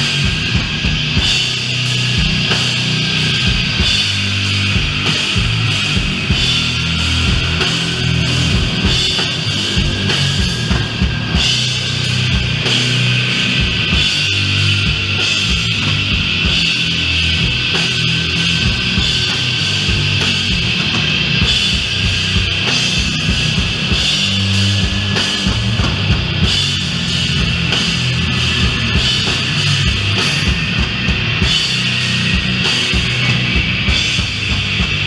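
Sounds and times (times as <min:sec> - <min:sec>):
doom metal band playing: 0:00.0 - 0:35.0
drums: 0:00.0 - 0:35.0.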